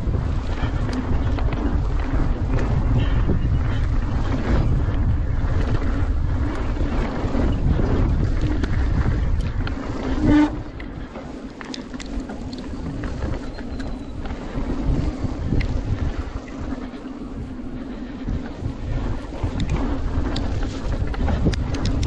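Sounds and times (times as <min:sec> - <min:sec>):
mountain bike rolling on gravel: 0:00.0 - 0:22.0
wind buffeting microphone: 0:00.0 - 0:22.0.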